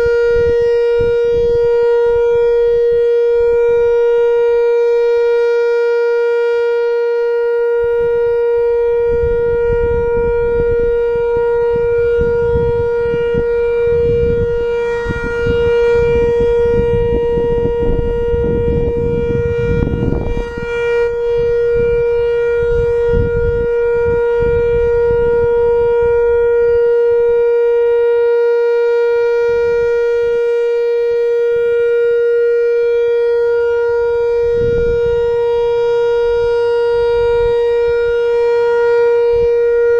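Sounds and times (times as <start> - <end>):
electronic siren steady tone: 0.0 - 39.9.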